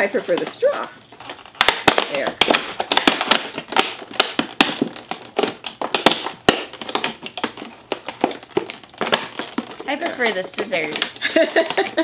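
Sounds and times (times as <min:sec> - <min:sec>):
plastic packaging clicking and crackling: 0:00.0 - 0:12.0.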